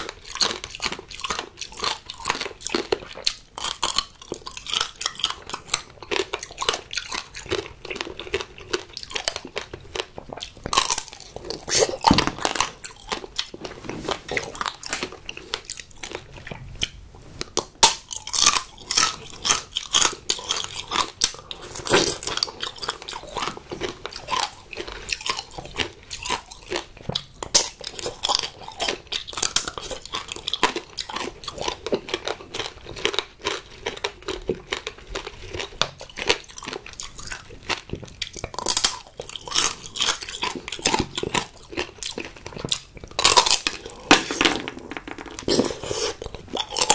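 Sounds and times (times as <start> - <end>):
candy shell crunching between teeth: 0.0 - 13.6, 14.2 - 46.9
soft chewing of fruit: 0.0 - 44.5, 45.2 - 46.9.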